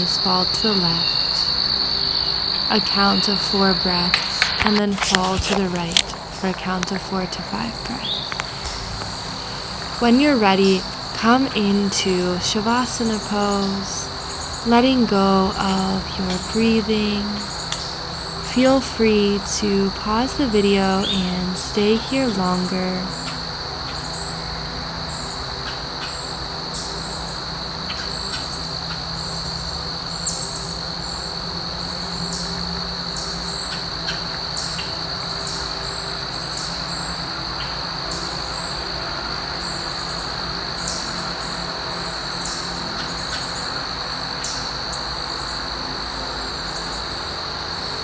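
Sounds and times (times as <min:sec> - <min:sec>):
insect chorus trilling: 0:00.0 - 0:48.0.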